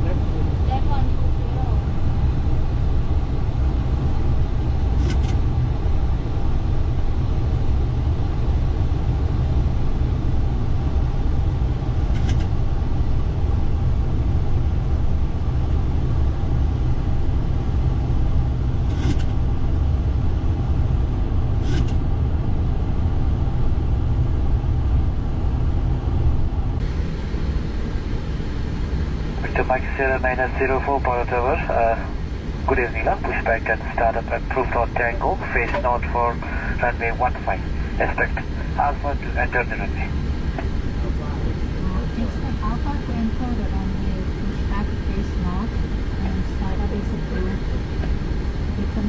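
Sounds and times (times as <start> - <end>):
aircraft cockpit engine rumble: 0.0 - 49.0.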